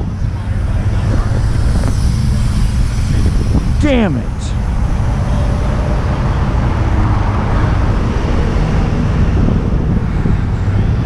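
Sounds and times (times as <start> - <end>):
vehicle and road noise: 0.0 - 11.0
wind rumbling on microphone: 0.0 - 11.0.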